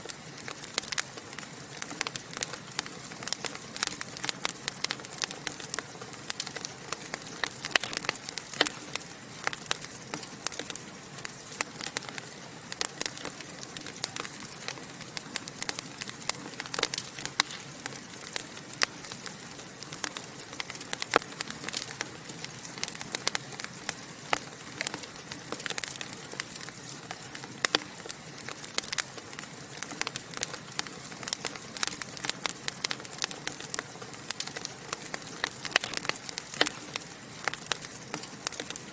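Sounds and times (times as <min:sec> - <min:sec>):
fire low hiss: 0:00.0 - 0:38.9
wood fire crackling and popping: 0:00.0 - 0:38.9.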